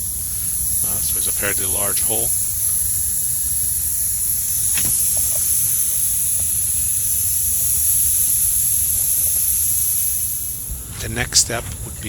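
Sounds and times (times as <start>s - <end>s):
air hissing out of tire: 0.0s - 12.0s.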